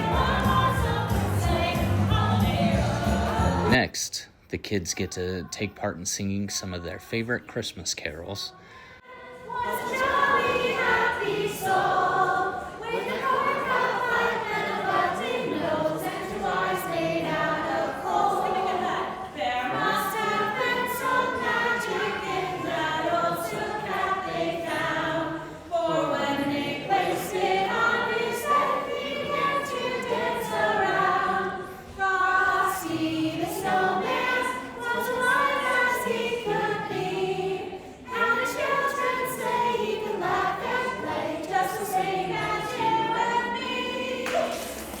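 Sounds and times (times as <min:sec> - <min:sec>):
children singing a carol: 0:00.0 - 0:03.8, 0:09.0 - 0:44.9.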